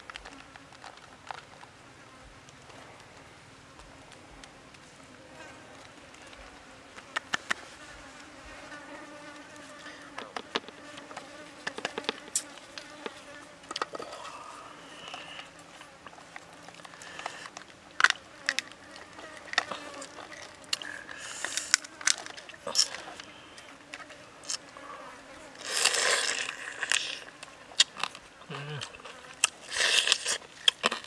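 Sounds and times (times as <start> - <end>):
lobster shells cracking: 0.0 - 5.0, 10.1 - 24.8, 25.5 - 31.0
insect buzzing: 0.0 - 30.6.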